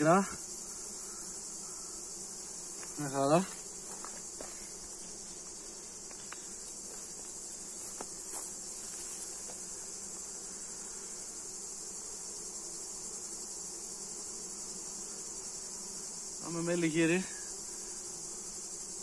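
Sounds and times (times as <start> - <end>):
high-pitched insect drone: 0.0 - 19.0
honeybees buzzing: 0.0 - 19.0.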